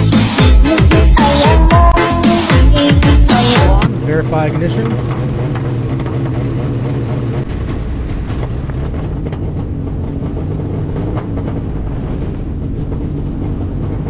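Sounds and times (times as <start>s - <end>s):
aircraft cockpit rumble: 0.0s - 14.0s.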